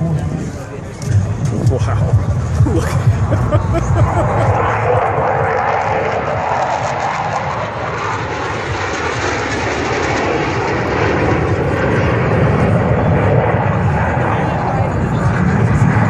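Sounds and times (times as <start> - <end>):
military jets flying low overhead: 0.0 - 16.0.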